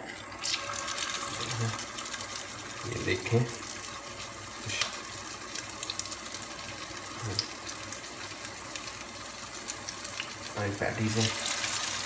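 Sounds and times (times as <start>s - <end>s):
patty sizzling in oil: 0.0s - 12.0s.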